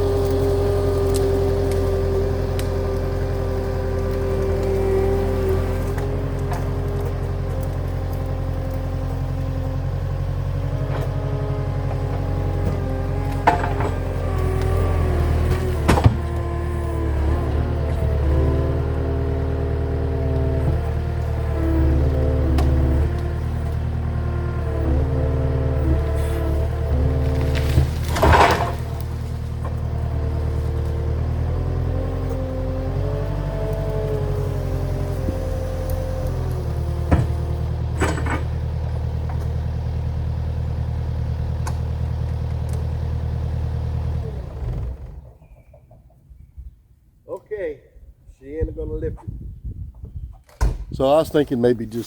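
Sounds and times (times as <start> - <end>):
skid steer engine under load: 0.0 - 46.5, 50.6 - 52.0.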